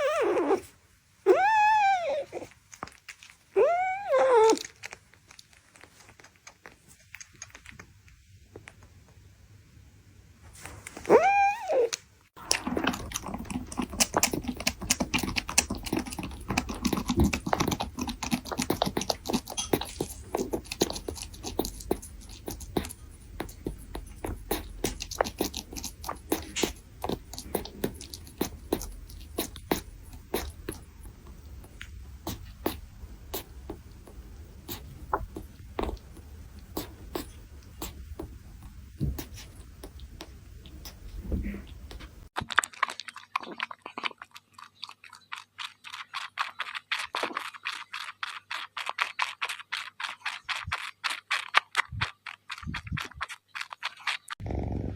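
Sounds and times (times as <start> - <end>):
kitten lapping milk: 1.3 - 9.2, 12.4 - 54.9.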